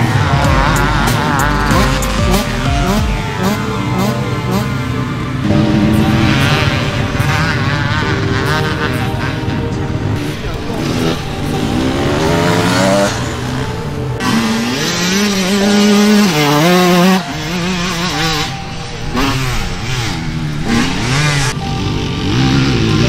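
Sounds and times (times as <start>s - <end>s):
dirt bike engines revving: 0.0s - 23.0s
music: 0.0s - 23.0s.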